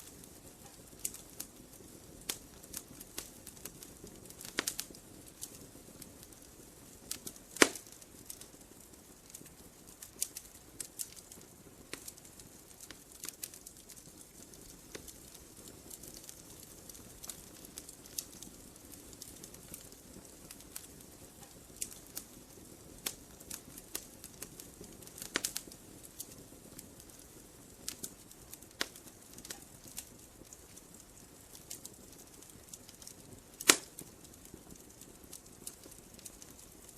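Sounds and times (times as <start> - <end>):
wood fire crackling and popping: 0.0 - 36.9.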